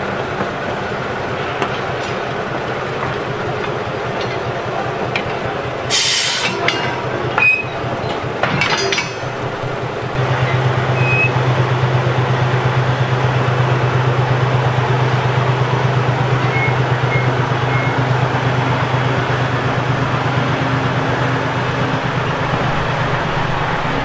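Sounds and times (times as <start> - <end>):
diesel locomotive engine throbbing: 0.0 - 24.0.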